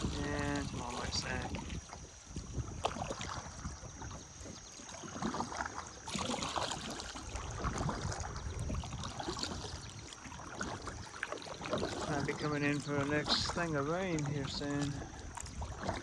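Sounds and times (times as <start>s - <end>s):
paddle strokes splashing: 0.0s - 16.0s
river and wind hiss: 0.0s - 16.0s.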